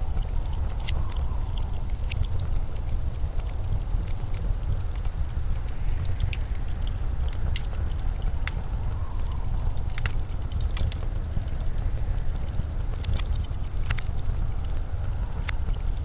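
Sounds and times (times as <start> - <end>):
sharp clicks and crackles: 0.0 - 16.0
storm wind rumbling: 0.0 - 16.0.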